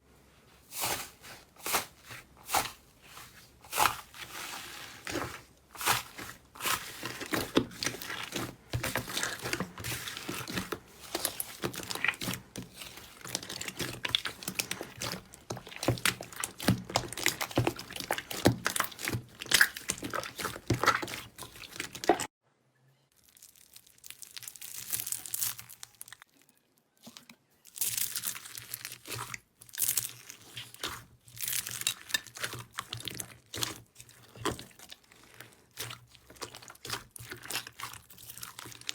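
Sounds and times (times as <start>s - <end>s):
slime crackling and popping: 5.1s - 22.3s, 23.2s - 26.5s, 27.6s - 38.9s.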